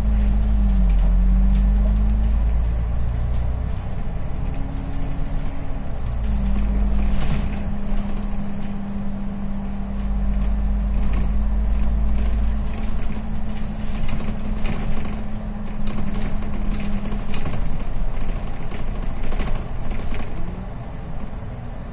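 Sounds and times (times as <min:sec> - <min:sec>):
bus body rattling and clicking: 0:00.0 - 0:21.9
bus engine hum: 0:00.0 - 0:21.9.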